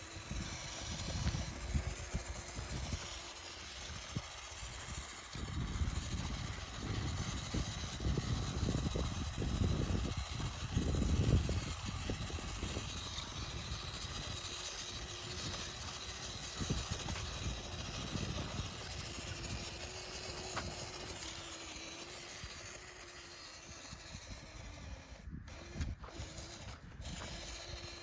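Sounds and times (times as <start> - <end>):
rc truck electric motor whine: 0.0 - 28.0.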